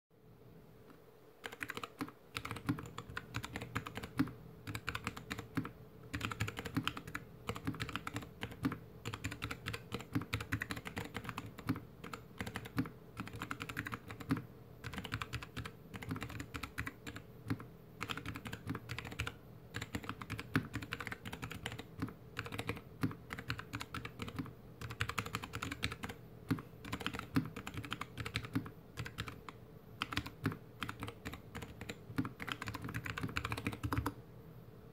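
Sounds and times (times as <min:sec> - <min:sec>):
slow mechanical keyboard typing: 0:00.8 - 0:34.2.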